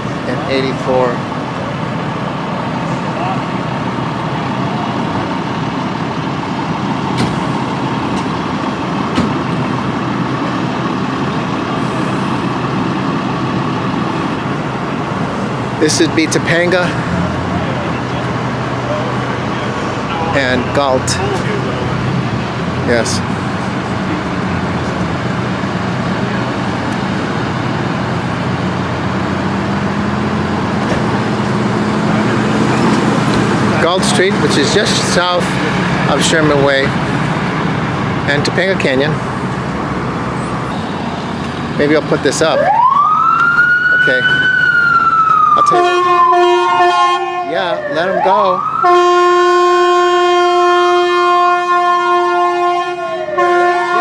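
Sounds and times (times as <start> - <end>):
heavy vehicle engine idling: 0.0 - 45.6
street traffic noise: 0.0 - 54.0.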